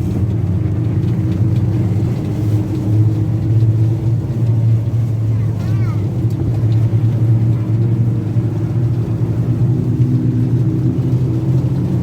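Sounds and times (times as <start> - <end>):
train engine humming: 0.0 - 12.0.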